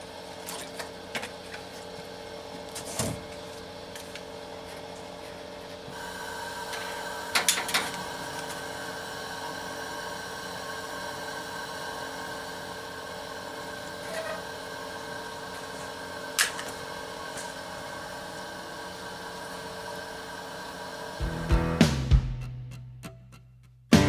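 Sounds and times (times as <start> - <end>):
gas burner hissing: 1.4 - 21.6.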